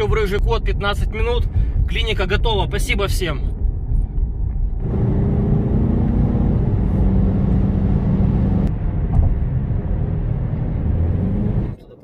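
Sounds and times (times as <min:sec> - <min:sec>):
road and tyre rumble: 0:00.0 - 0:11.9
car engine drone: 0:00.0 - 0:12.0.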